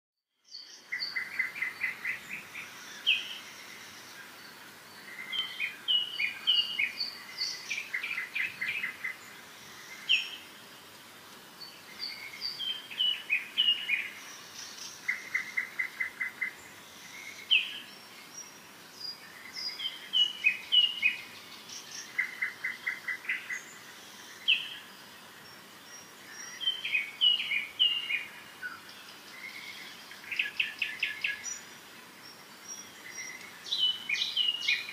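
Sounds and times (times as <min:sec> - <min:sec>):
faint steady hiss: 0:00.3 - 0:34.9
songbirds chirping and trilling: 0:00.3 - 0:34.9.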